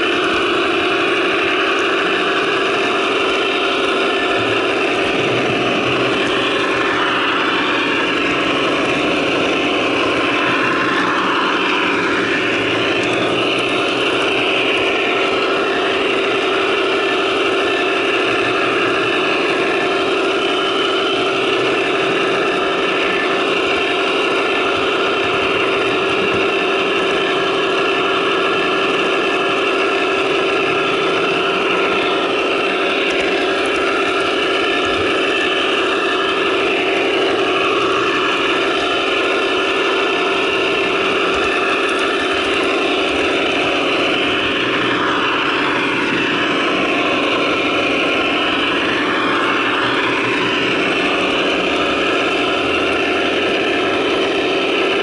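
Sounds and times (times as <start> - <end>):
diesel locomotive sound effect: 0.0 - 55.0.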